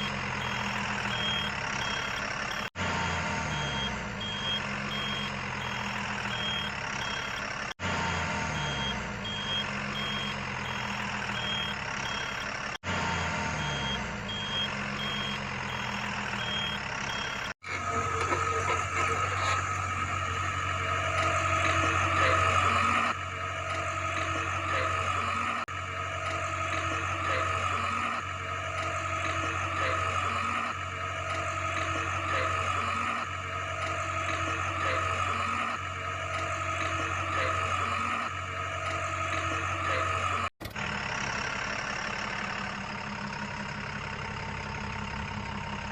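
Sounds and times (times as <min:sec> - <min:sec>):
engine noise: 0:00.0 - 0:45.9
steady engine drone: 0:00.0 - 0:45.9
truck reversing beeper: 0:00.0 - 0:45.9.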